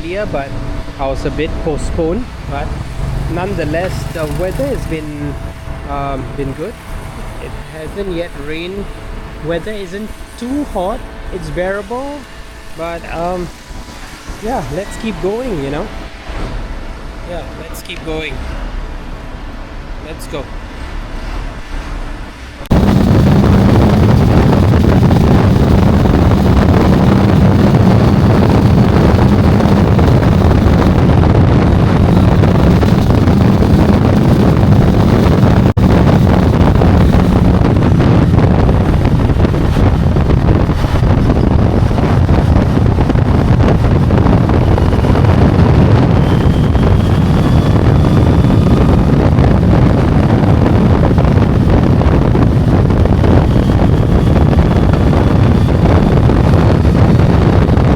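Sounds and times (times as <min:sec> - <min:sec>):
motorcycle engine drone: 0:00.0 - 0:57.9
wind rushing over microphone: 0:00.0 - 0:57.9.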